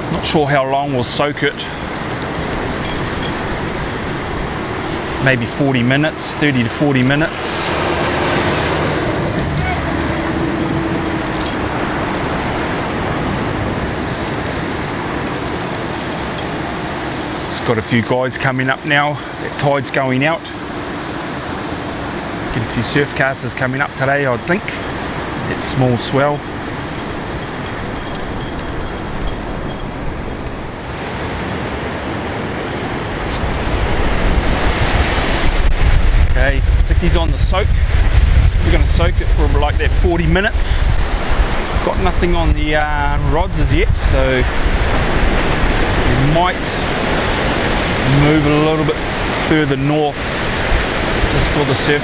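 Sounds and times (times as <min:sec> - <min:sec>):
surf rushing: 0:00.0 - 0:52.0
wind: 0:00.0 - 0:52.0.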